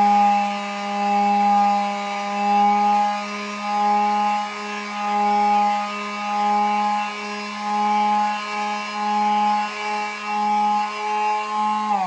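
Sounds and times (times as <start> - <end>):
electric palm sander scrubbing metal: 0.0 - 12.0
sander motor winding down: 0.0 - 12.0.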